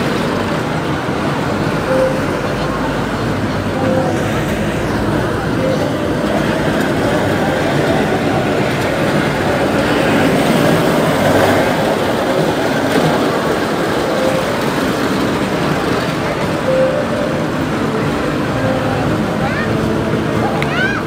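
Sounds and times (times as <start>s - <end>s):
small train rumbling and rattling: 0.0s - 21.0s.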